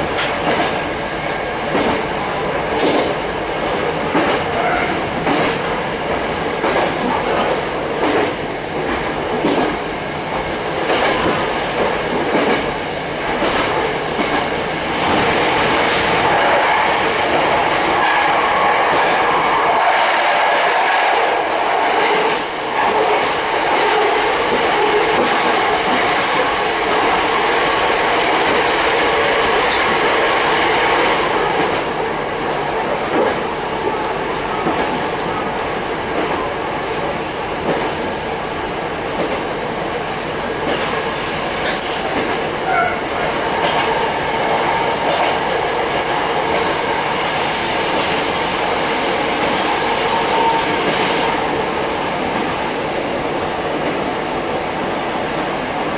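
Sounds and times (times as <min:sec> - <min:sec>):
train running rumble: 0:00.0 - 0:55.9.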